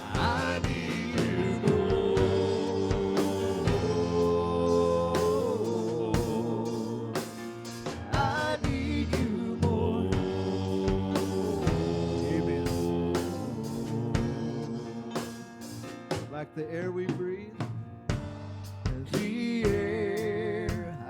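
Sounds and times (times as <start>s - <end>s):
person singing wordless melody: 0.0s - 17.7s, 18.8s - 21.0s
steady drum beat: 0.0s - 21.0s
worship band music: 0.0s - 21.0s.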